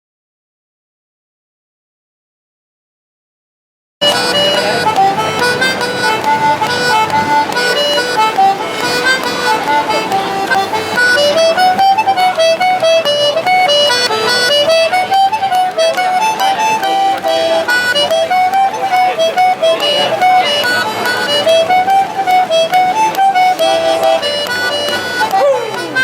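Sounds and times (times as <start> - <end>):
dance tune on melody instrument: 4.0 - 26.0.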